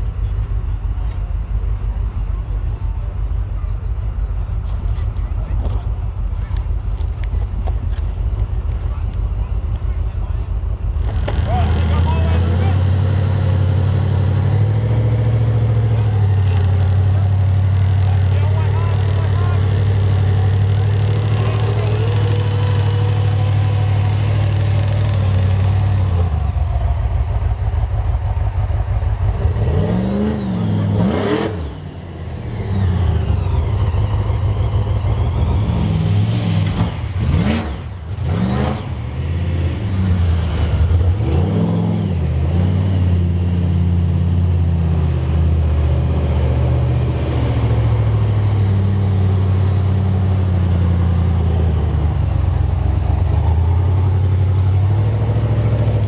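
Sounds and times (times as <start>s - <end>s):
engine revving under load: 4.0s - 56.0s.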